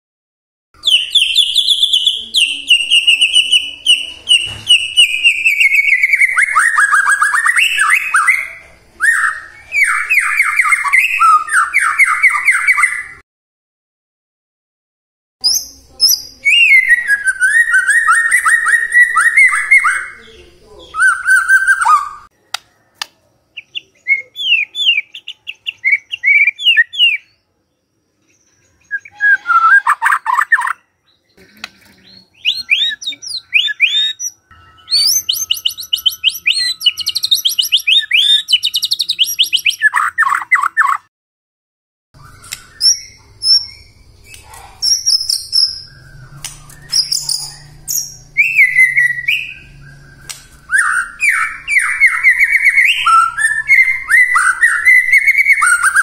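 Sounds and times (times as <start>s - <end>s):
bird song whistles and trills: 0.8s - 13.2s, 15.4s - 31.4s, 32.0s - 41.1s, 42.2s - 56.0s.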